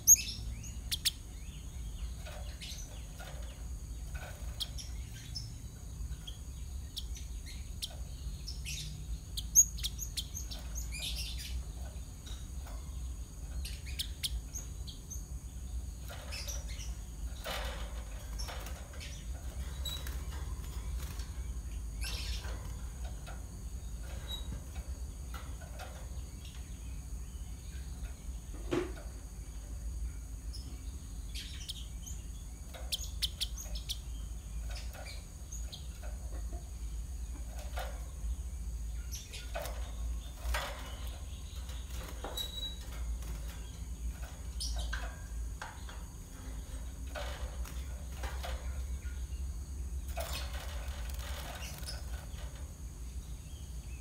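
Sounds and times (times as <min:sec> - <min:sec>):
sparrows chip calls: 0:00.0 - 0:54.0
steady low hum: 0:00.0 - 0:54.0.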